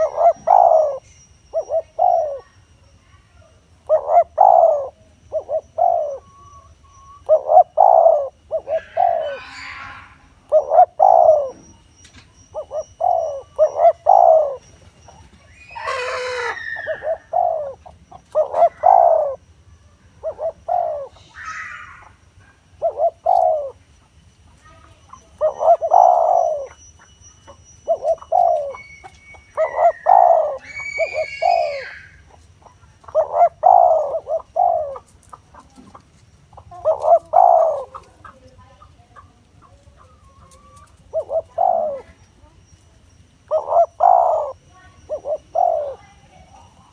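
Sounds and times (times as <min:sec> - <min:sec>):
dove cooing: 0:00.0 - 0:42.7, 0:43.4 - 0:46.9
other birds calling: 0:00.0 - 0:46.9.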